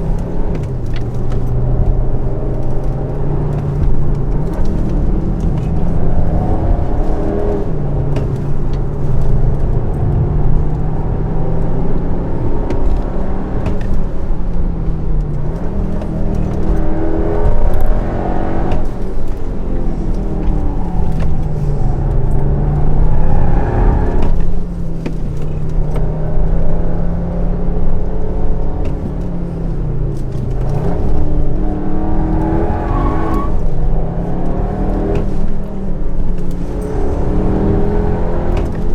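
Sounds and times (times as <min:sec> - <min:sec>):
car engine accelerating: 0:00.0 - 0:38.9
road noise: 0:00.0 - 0:38.9.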